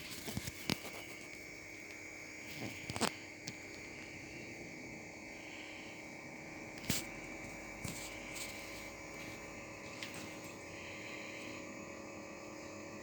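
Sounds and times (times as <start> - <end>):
low electrical hum: 0.0 - 13.0
thin high whine: 0.0 - 13.0.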